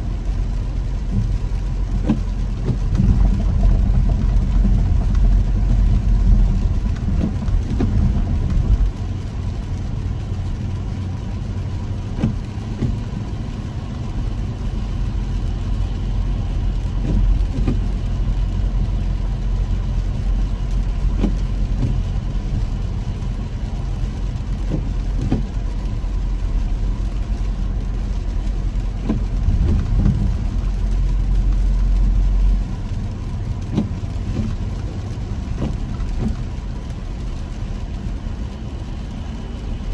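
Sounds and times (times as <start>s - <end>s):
car rumble on wet road: 0.0s - 39.9s
raindrops tapping windshield: 0.0s - 39.9s.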